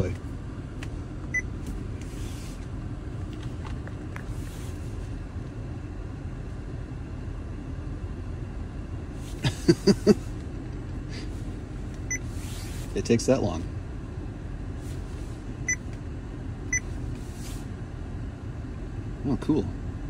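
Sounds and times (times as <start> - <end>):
car engine idling inside cabin: 0.0 - 20.0.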